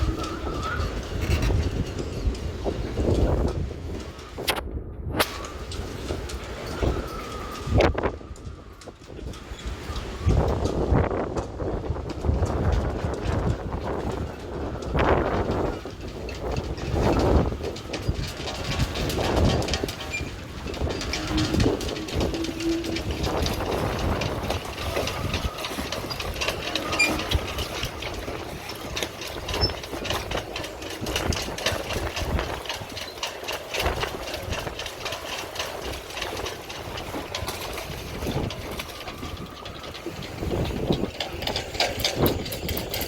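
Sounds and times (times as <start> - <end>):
dense rattling and clicking: 0.0 - 4.6, 5.2 - 43.0
gusty wind buffeting microphone: 0.0 - 43.0.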